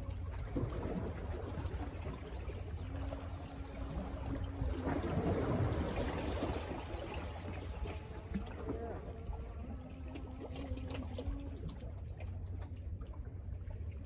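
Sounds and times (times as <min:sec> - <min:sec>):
water lapping against rocks: 0:00.0 - 0:14.0.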